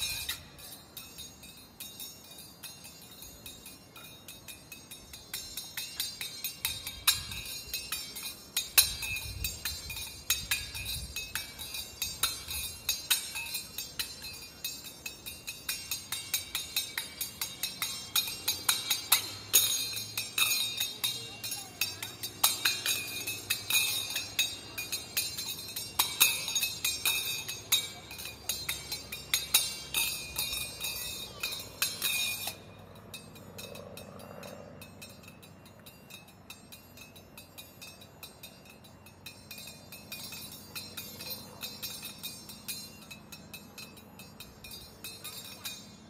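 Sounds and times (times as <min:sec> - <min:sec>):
small hand cymbals clinking: 0:00.0 - 0:46.0.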